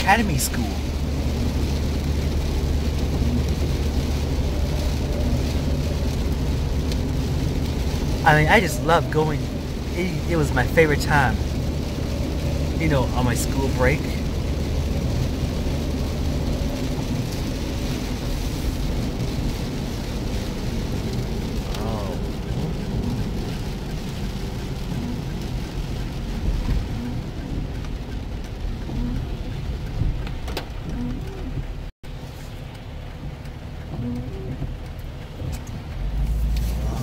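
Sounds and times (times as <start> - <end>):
car engine and tyres running: 0.0 - 37.0
rain patter on car: 0.0 - 37.0.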